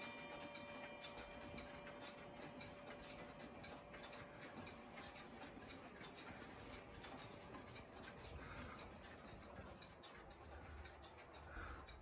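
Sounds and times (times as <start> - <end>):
mechanical clocks ticking: 0.0 - 12.0.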